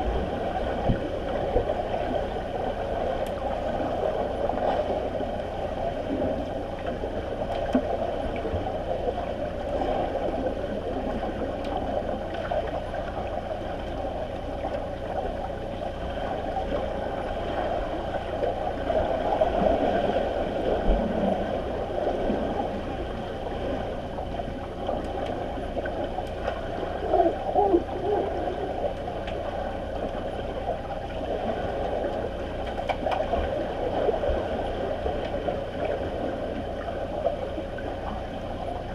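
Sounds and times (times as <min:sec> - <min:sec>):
muffled underwater water gurgling: 0:00.0 - 0:38.9.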